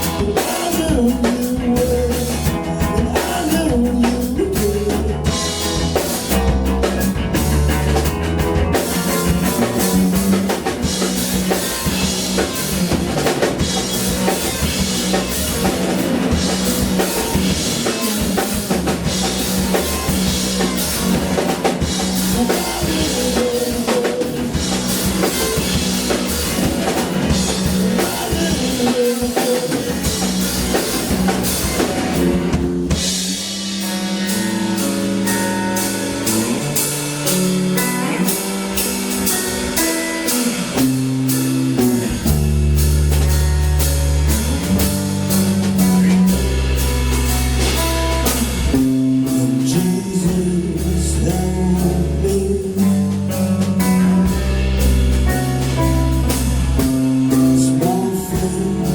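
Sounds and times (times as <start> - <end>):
drum kit: 0.0 - 58.9
heavy sustained bass notes: 0.0 - 58.9
live rock band playing: 0.0 - 58.9.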